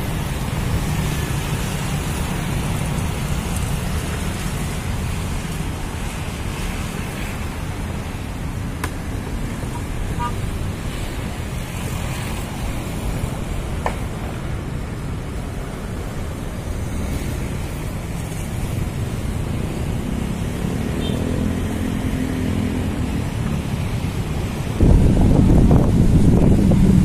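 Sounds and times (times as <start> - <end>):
distant road traffic: 0.0 - 27.0
wind rumbling on microphone: 0.0 - 27.0.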